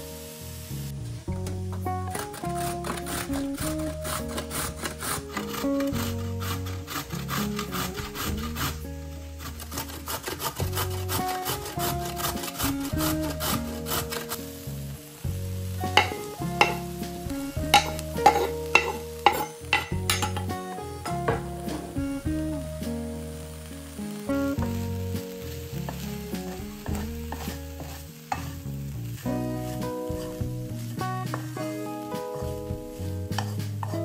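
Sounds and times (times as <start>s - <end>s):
food sizzling in a frying pan: 0.0s - 34.0s
soft guitar music: 0.0s - 34.0s
spatula scraping a pan: 1.8s - 14.7s, 15.7s - 22.0s, 24.3s - 34.0s.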